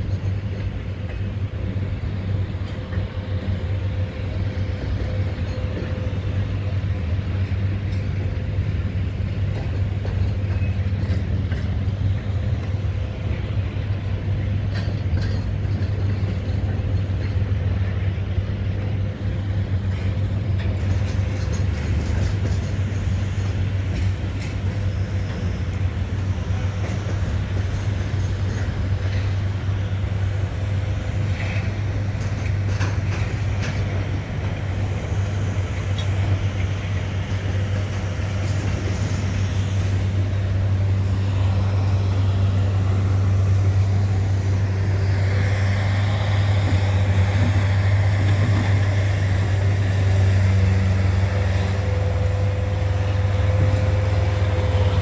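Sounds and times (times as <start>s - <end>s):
faint clicks from train cars: 0.0s - 55.0s
freight train rolling past: 0.0s - 55.0s
low diesel drone: 0.0s - 55.0s.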